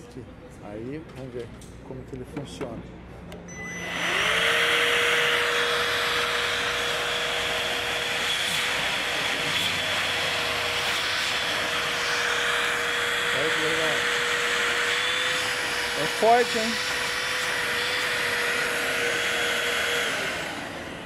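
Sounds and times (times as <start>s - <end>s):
handheld vacuum cleaner running: 3.7s - 21.0s.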